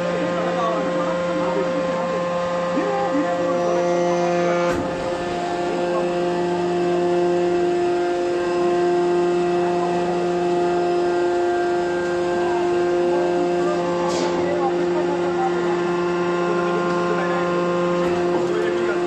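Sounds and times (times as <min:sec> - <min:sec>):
hydraulic power unit hum: 0:00.0 - 0:19.0.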